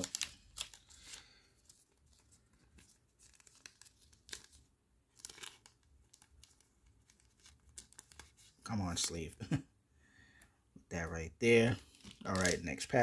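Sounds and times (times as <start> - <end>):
plastic sleeve crinkling: 0.0 - 9.3, 11.8 - 13.0.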